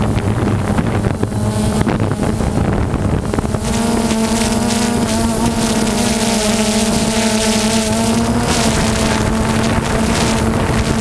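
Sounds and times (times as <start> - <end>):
quadcopter propellers buzzing: 0.0 - 11.0
wind noise on microphone: 0.0 - 11.0.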